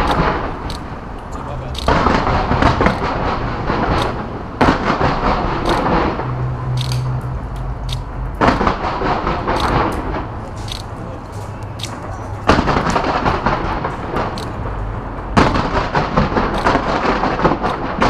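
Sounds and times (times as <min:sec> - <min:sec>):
fireworks booming: 0:00.0 - 0:06.8, 0:08.3 - 0:18.0
fireworks crackling: 0:00.0 - 0:18.0
sharp pops: 0:00.0 - 0:18.0.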